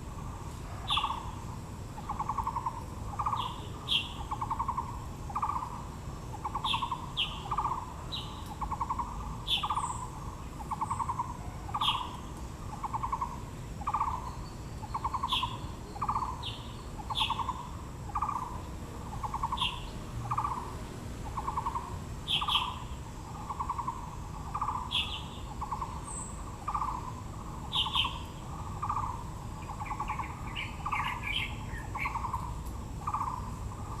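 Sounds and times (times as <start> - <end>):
birds chirping: 0.1 - 34.0.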